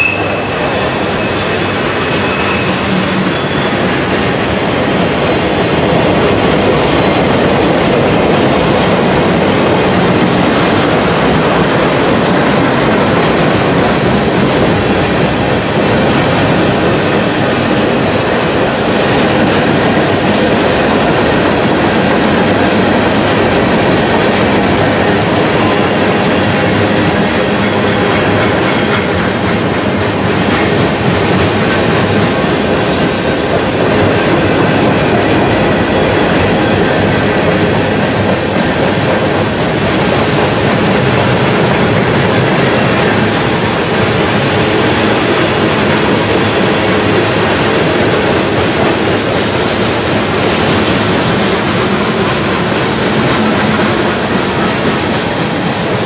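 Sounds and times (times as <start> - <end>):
steel wheels on rails: 0.0 - 56.0
train cars rattling: 0.0 - 56.0.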